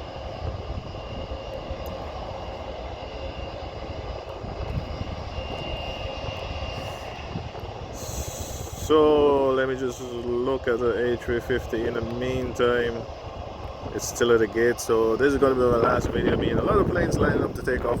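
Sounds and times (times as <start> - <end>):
distant jet engine rumble: 0.0 - 18.0
faint steady whine: 0.0 - 18.0.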